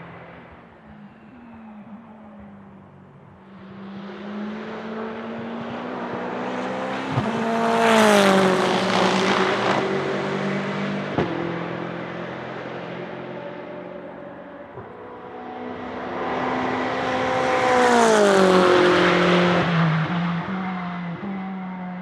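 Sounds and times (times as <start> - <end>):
race car passing at speed: 0.0 - 22.0.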